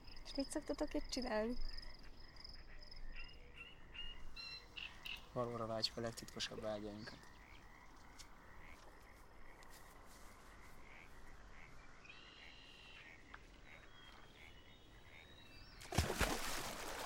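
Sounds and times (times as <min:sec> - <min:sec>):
faint frog chirps: 0:00.0 - 0:15.8.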